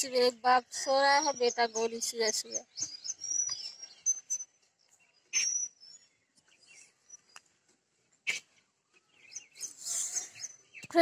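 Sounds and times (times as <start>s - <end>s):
bird chirps: 0.0s - 7.6s, 8.2s - 11.0s.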